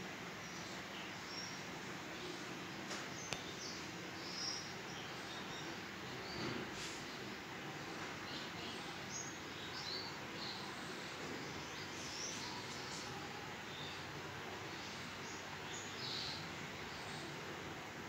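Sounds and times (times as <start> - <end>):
small birds chirping: 0.0 - 18.0
steady background noise: 0.0 - 18.0.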